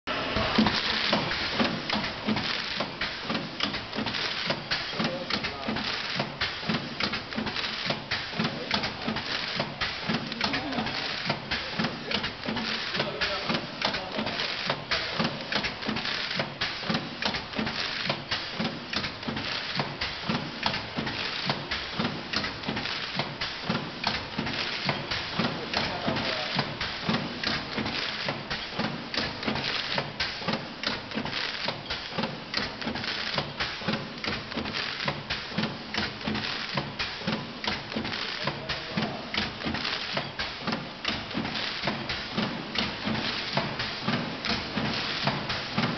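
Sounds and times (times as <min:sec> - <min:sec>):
continuous machine noise: 0:00.1 - 0:45.9
packing machine clacking: 0:00.1 - 0:45.9.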